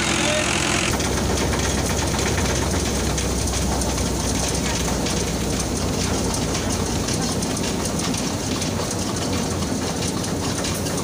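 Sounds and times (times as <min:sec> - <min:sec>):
threshing machine rattling: 0:00.0 - 0:11.0.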